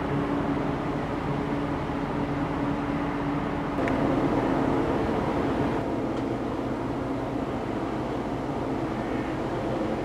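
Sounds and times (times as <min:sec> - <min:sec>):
ship engines droning: 0:00.0 - 0:10.0.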